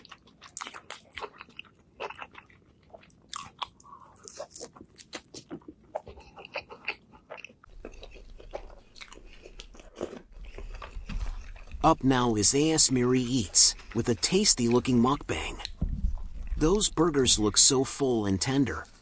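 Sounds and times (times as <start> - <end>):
chewing and crunching food: 0.0 - 19.0.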